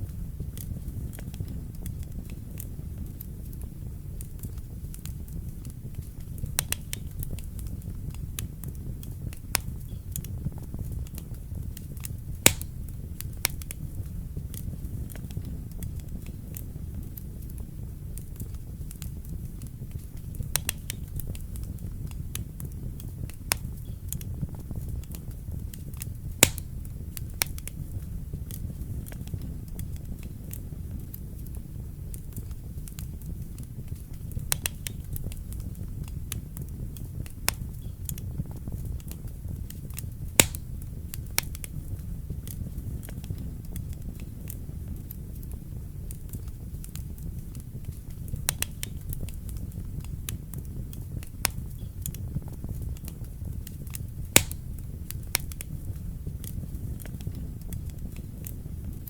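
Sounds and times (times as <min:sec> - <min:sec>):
burning logs crackling and popping: 0:00.0 - 0:59.0
low rumble of flames: 0:00.0 - 0:59.0.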